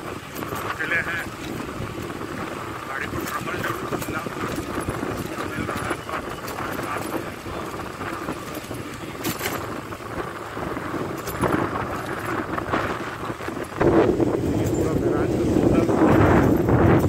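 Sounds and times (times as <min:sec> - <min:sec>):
moving vehicle rumble: 0:00.0 - 0:17.0
wind buffeting microphone: 0:00.0 - 0:17.0.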